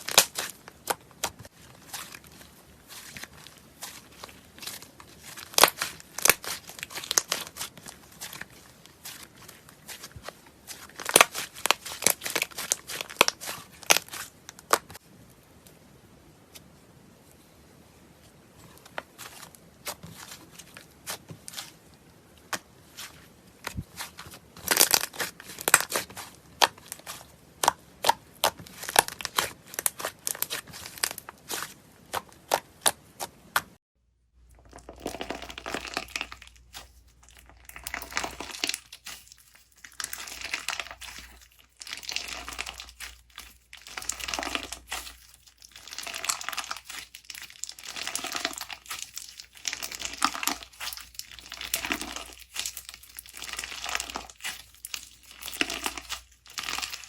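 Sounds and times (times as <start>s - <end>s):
slime crinkly crunching: 0.0s - 15.0s, 19.2s - 22.0s, 22.9s - 33.0s, 34.6s - 57.0s.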